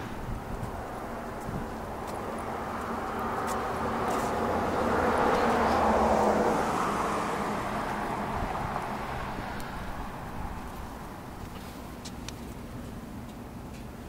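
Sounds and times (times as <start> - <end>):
road vehicle passing: 0.0 - 13.2.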